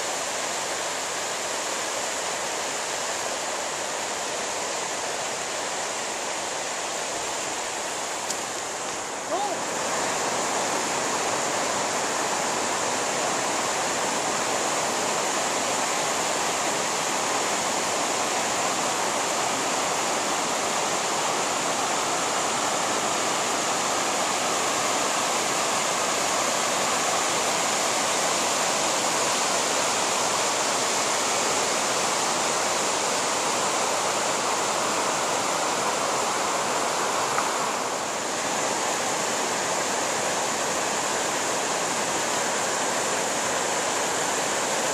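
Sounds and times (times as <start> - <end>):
river rushing over stones: 0.0 - 44.9.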